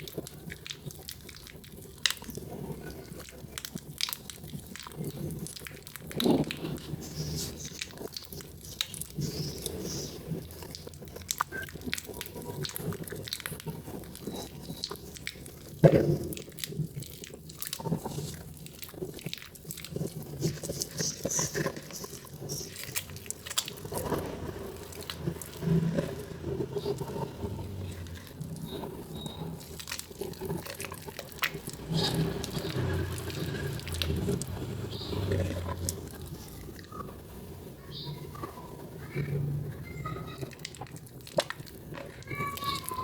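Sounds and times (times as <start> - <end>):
wet soap squelching in hand: 0.0 - 39.2, 39.8 - 43.0.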